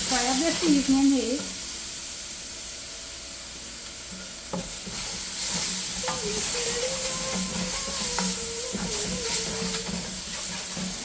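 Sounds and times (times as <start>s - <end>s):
seasoning sizzling in hot oil: 0.0s - 11.0s.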